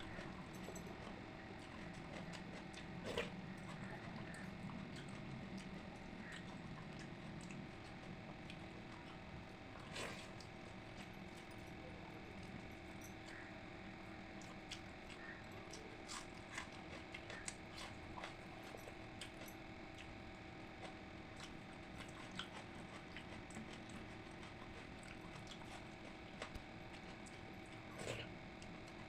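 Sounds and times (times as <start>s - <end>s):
soft wet chewing: 0.0s - 29.0s
steady background hum: 0.0s - 29.0s.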